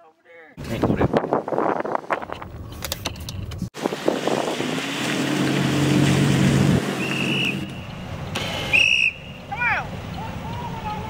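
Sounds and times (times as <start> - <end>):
wind and road noise from car: 0.6 - 11.0.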